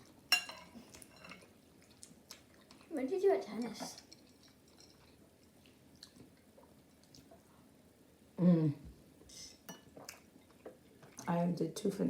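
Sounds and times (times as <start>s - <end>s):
soft chewing: 0.0s - 7.9s, 8.9s - 11.4s.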